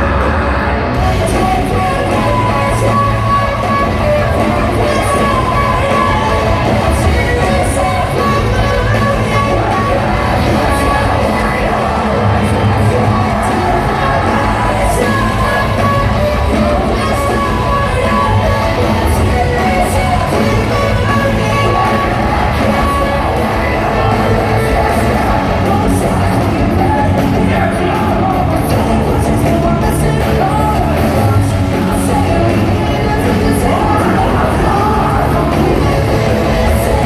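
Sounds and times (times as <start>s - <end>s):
crowd yelling: 0.0s - 37.0s
live rock band with singer: 0.0s - 37.0s.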